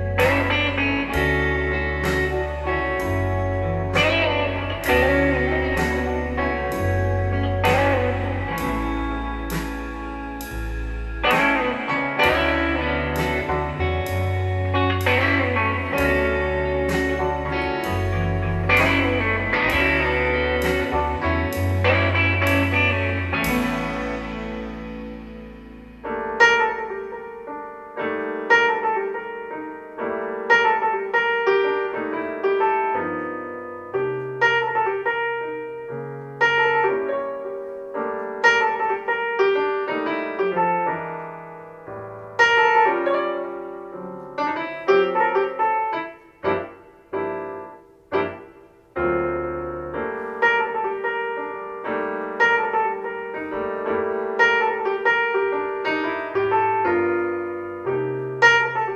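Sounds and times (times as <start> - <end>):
solo piano music through loudspeakers: 0.0 - 58.9.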